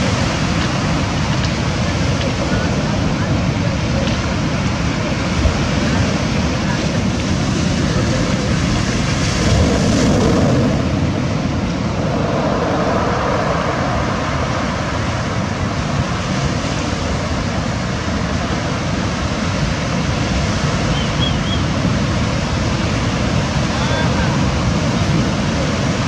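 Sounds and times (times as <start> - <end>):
waves washing onto pebble shore: 0.0 - 26.0.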